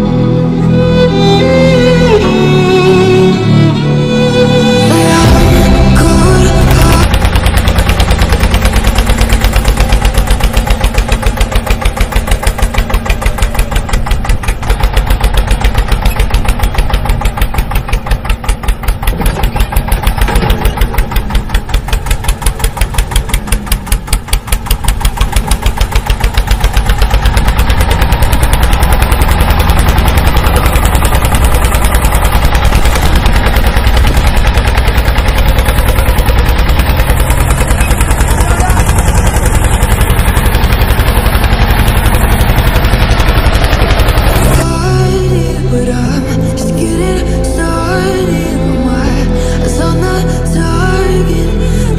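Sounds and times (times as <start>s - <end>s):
tractor engine chugging: 0.0s - 51.9s.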